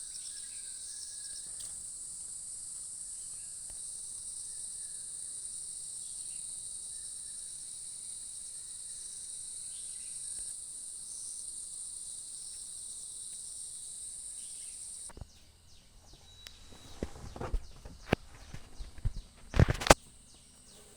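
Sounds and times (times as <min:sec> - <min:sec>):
insects chirping: 0:00.0 - 0:20.9.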